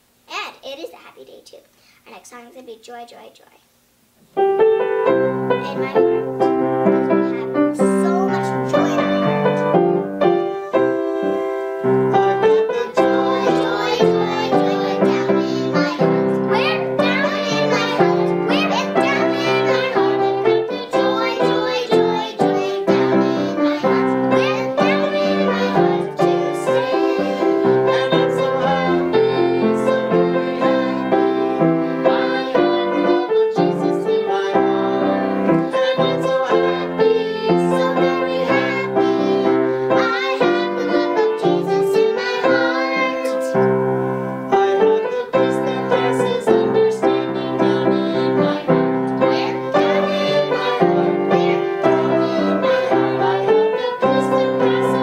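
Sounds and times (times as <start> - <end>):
piano: 4.3 - 55.0
girls singing a children's song: 4.7 - 55.0.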